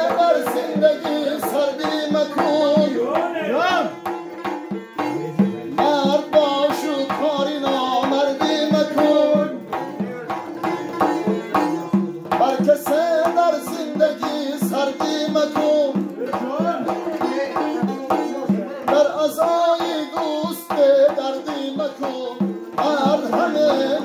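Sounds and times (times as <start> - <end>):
frame drum struck by hand: 0.0 - 24.0
man singing: 0.0 - 24.0.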